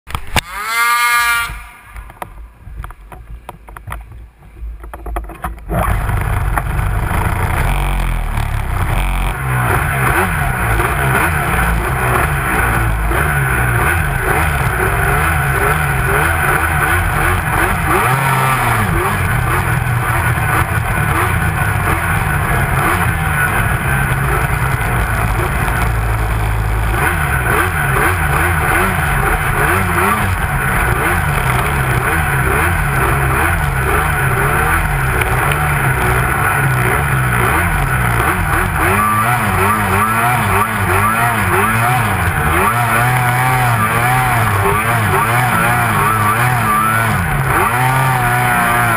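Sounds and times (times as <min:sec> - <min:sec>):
snowmobile engine revving: 0:00.2 - 0:02.2, 0:05.7 - 0:48.9.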